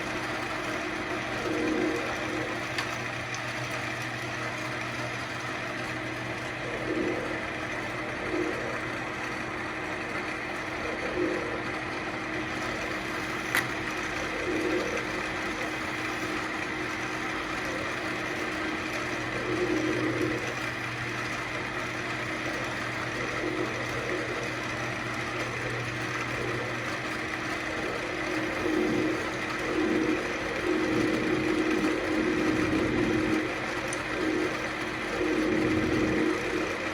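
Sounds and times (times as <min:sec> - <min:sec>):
wood lathe running: 0:00.0 - 0:36.9.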